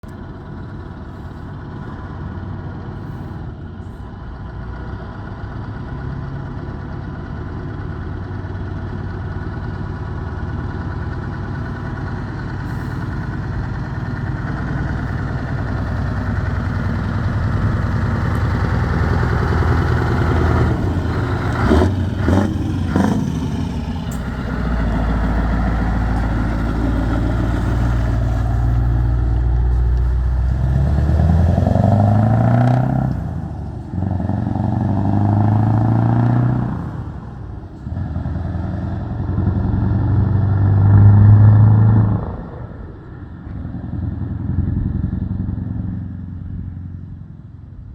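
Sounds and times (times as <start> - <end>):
truck engine with open exhaust: 0.0 - 47.9.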